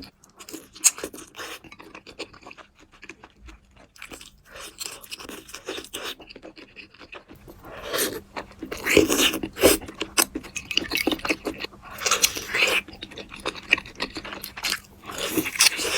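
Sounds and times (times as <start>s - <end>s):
crisp chewing and crunching: 0.0s - 15.9s.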